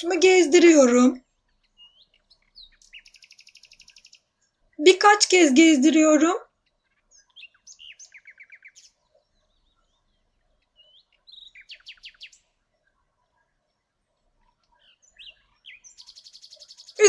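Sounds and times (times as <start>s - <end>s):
bird chirping: 0.0s - 5.2s, 5.8s - 17.0s.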